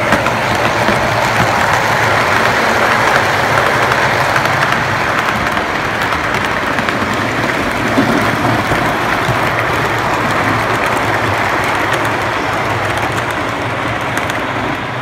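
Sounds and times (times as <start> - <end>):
model train wheels clattering: 0.0 - 15.0.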